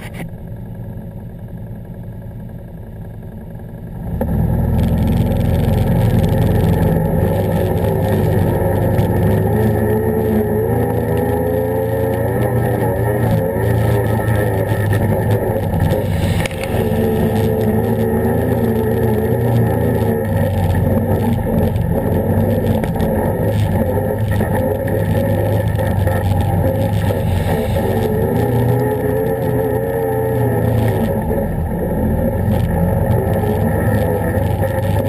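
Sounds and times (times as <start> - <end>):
atv engine revving: 3.9 - 35.0.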